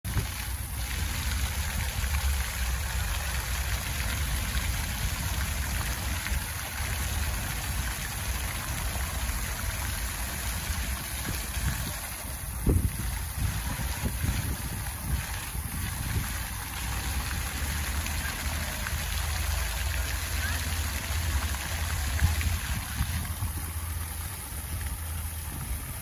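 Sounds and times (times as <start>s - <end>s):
fountain water splashing: 0.1s - 26.0s.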